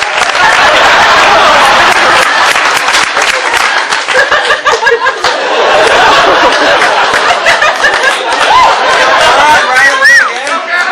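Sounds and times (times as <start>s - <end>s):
audience laughing and chattering: 0.0s - 10.9s
scattered clapping: 0.0s - 10.9s.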